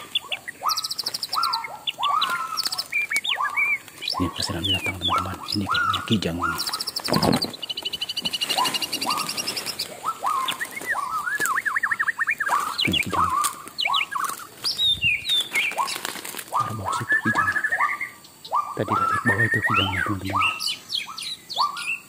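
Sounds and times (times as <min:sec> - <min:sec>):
footsteps crunching dry leaves: 0:00.0 - 0:17.8
birds chirping: 0:00.0 - 0:22.0
rapid high bird trill: 0:00.0 - 0:22.0.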